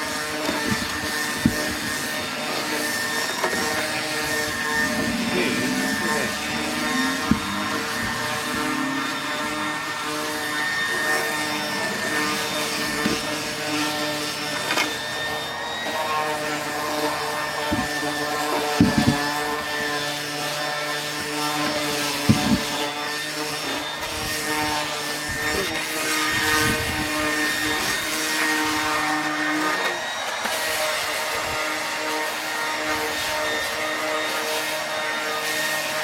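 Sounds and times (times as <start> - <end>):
power sander on wood: 0.0 - 36.0.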